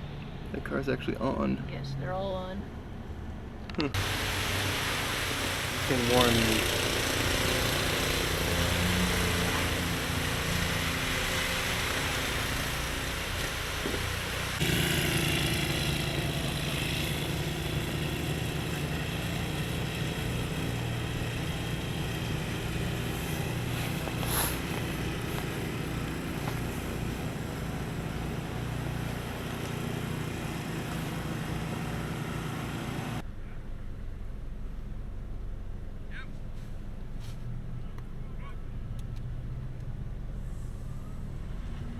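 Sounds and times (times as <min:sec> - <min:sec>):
engine running: 0:02.7 - 0:41.9.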